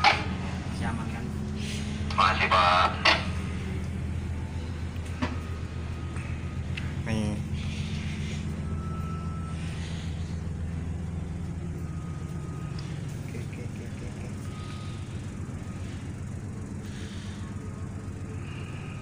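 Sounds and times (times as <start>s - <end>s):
ship engines droning: 0.0s - 19.0s.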